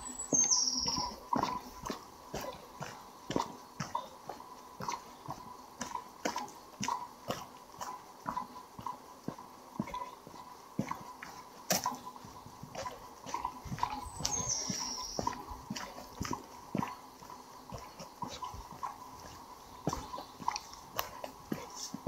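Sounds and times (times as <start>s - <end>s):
footsteps walking: 0.0s - 22.0s.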